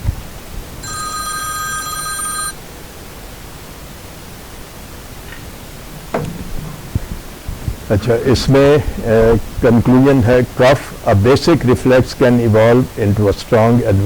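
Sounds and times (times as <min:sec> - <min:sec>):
steady hiss: 0:02.6 - 0:14.0.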